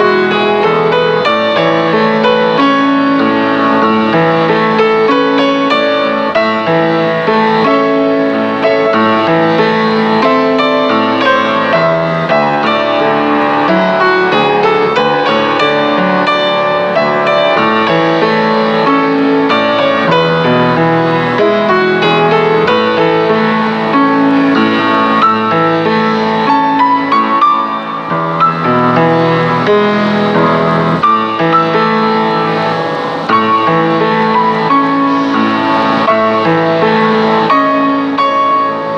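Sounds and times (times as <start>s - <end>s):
piano background music: 0.0s - 38.9s.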